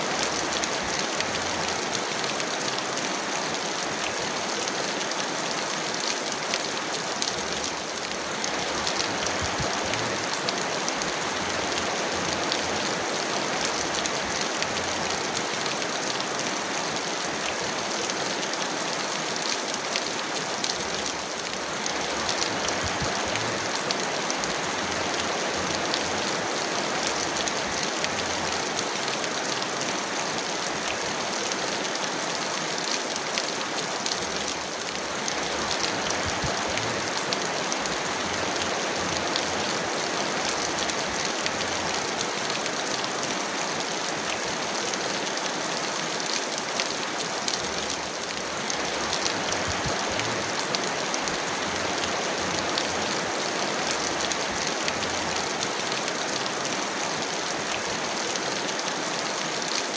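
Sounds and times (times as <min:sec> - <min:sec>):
heavy rain hissing: 0:00.0 - 0:59.9
raindrops ticking: 0:00.1 - 0:59.9.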